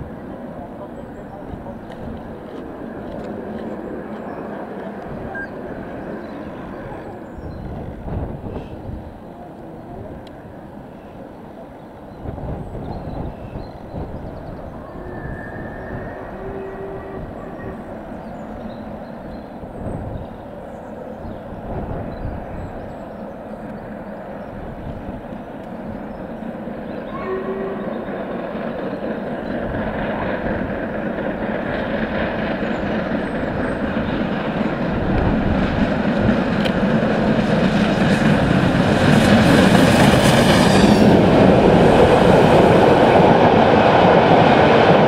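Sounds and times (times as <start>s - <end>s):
distant steam locomotive rumble: 0.0s - 45.0s.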